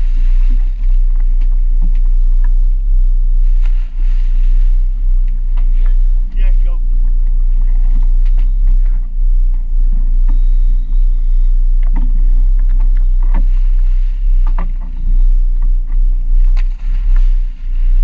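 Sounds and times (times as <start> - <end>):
boat engine low rumble: 0.0 - 18.0.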